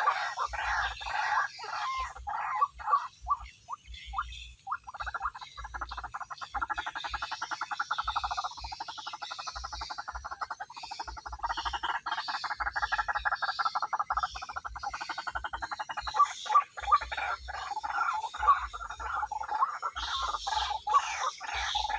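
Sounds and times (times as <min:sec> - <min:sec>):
waterhen croaking calls: 0:00.0 - 0:21.9.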